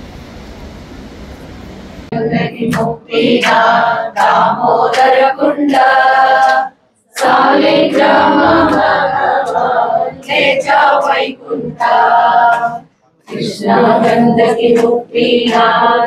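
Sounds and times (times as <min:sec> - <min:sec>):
group singing devotional song: 0:02.1 - 0:16.0.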